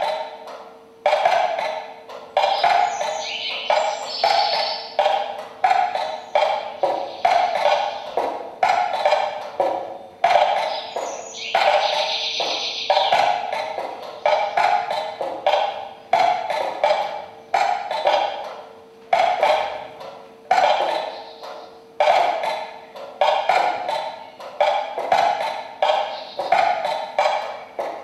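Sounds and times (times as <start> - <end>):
metronomes ticking: 0.0 - 28.0.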